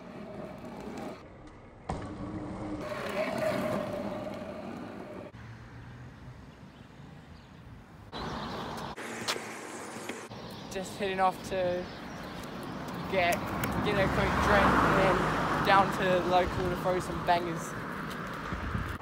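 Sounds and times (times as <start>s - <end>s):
scooter wheels rolling on asphalt: 0.0s - 7.5s, 8.1s - 19.0s.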